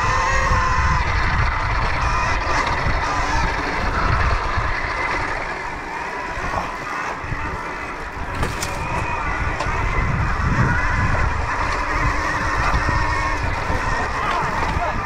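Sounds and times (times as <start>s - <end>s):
motor vehicle running: 0.0s - 15.0s.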